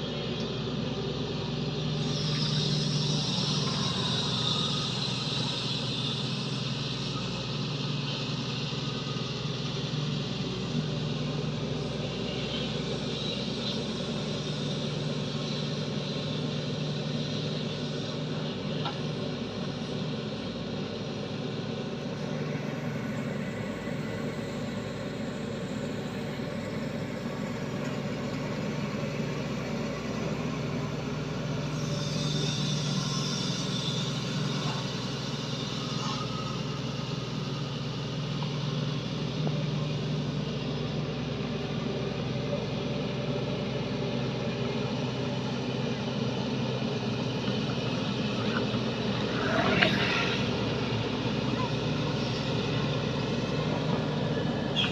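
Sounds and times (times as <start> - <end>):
excavator diesel engine humming: 0.0 - 54.9.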